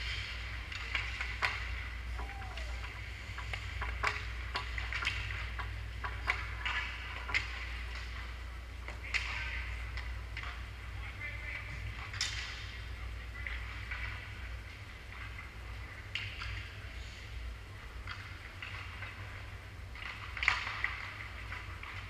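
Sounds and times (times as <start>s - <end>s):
hockey sticks or puck clacking: 0.0s - 17.2s, 17.8s - 22.0s
steady low hum: 0.0s - 22.0s.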